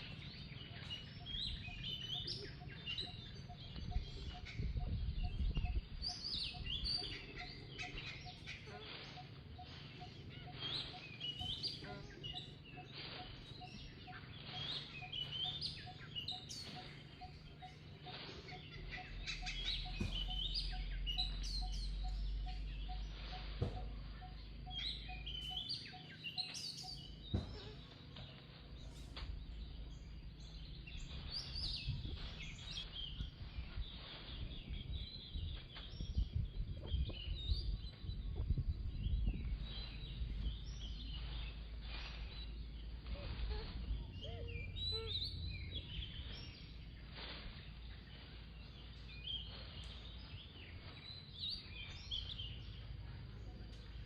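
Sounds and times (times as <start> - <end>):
birds chirping: 0.0 - 54.0
steady low rumble: 0.0 - 54.0.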